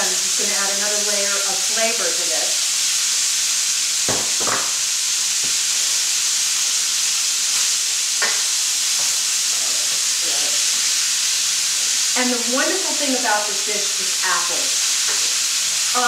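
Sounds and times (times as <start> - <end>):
meat and onion sizzling in a pan: 0.0 - 16.0.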